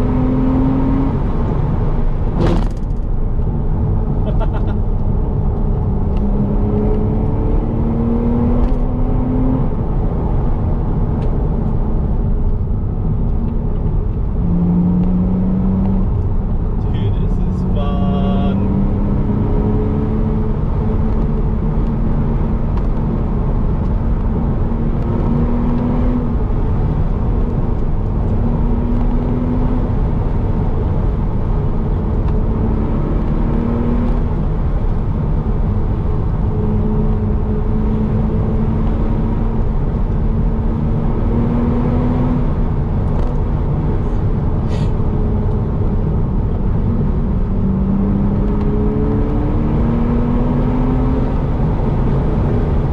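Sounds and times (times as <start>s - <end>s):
car engine: 0.0s - 52.9s
road noise inside car: 0.0s - 52.9s.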